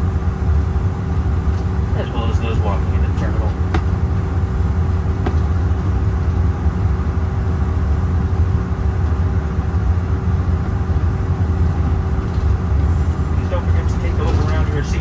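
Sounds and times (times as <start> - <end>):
jet cabin rumble: 0.0 - 15.0.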